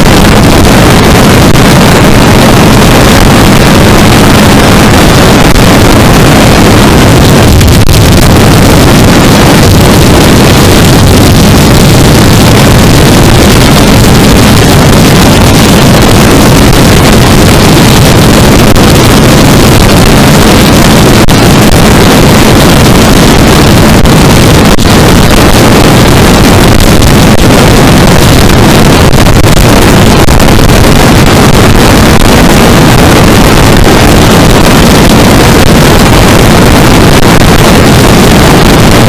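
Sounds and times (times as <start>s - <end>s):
wind roar on microphone: 0.0s - 39.0s.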